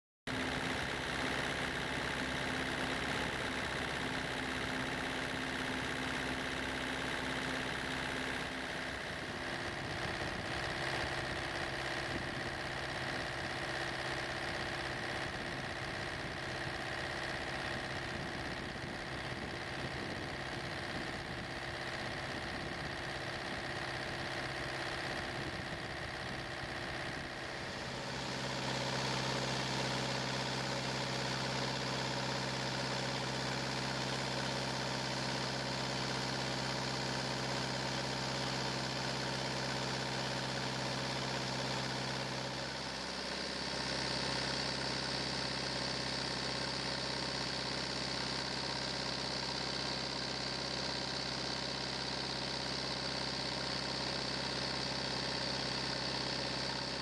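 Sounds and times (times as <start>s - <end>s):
diesel engine idling: 0.3s - 57.0s.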